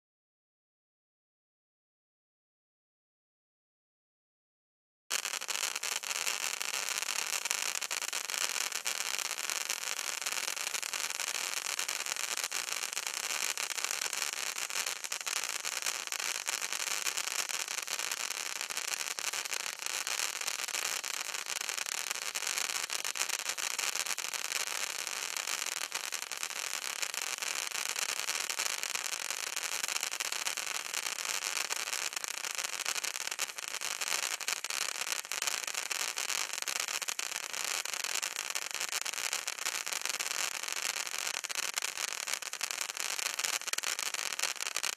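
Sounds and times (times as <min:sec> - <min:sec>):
firework fountain hissing: 0:05.1 - 0:44.9.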